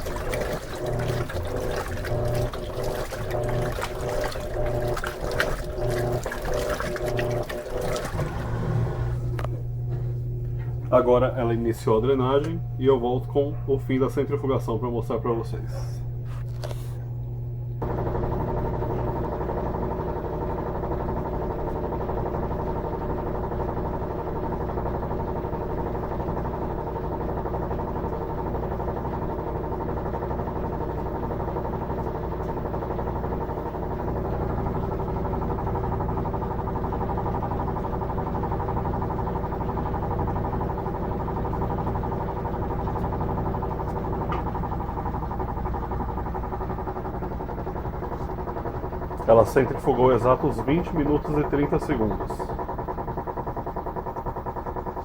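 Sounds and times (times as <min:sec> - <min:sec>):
washing machine drum spinning: 0:00.0 - 0:15.9, 0:17.7 - 0:55.0.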